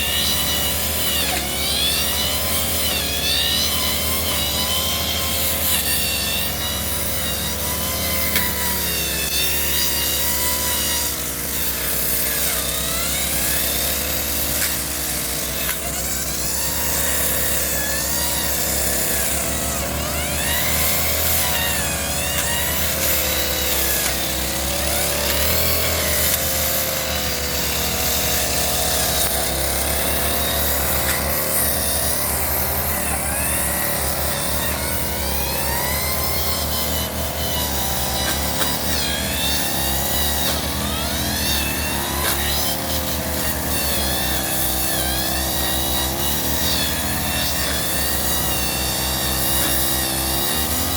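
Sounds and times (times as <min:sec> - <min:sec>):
brush cutter engine cutting grass: 0:00.0 - 0:50.9.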